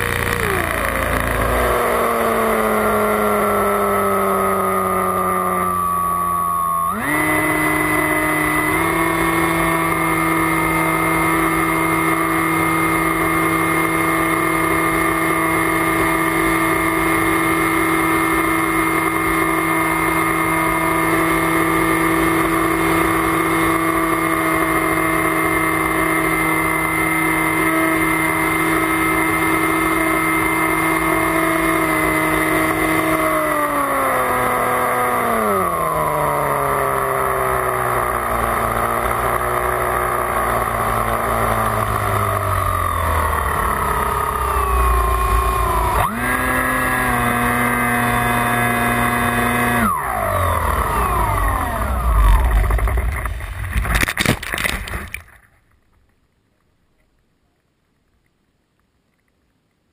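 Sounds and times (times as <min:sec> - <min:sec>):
electric motor and propeller whining: 0:00.0 - 0:54.1.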